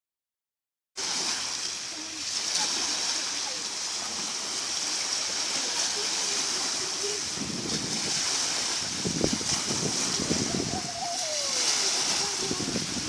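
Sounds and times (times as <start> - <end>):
heavy low splashes: 1.0 - 13.0
water rushing and splashing: 1.0 - 13.0.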